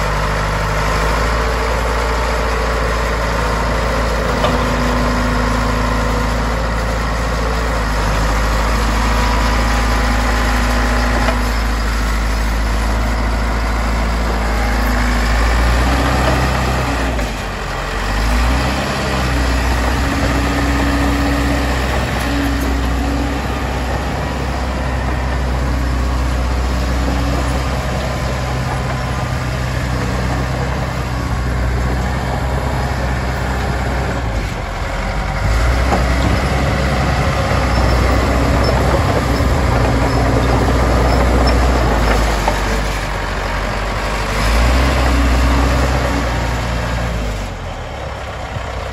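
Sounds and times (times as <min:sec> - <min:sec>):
diesel bulldozer engine running: 0:00.0 - 0:48.9.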